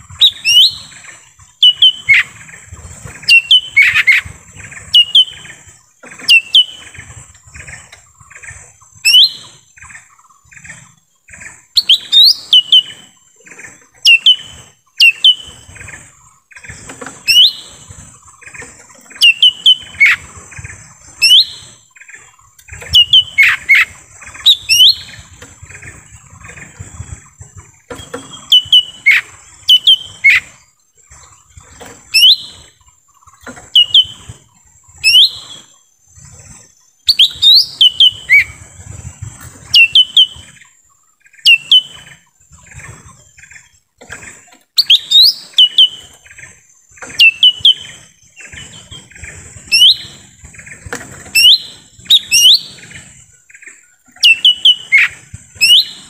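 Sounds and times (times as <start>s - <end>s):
bird whistled calls: 0.1s - 2.6s, 3.2s - 7.0s, 8.4s - 10.6s, 11.4s - 15.9s, 16.5s - 25.9s, 27.8s - 30.7s, 32.0s - 32.8s, 33.6s - 38.8s, 39.6s - 42.8s, 44.8s - 56.0s.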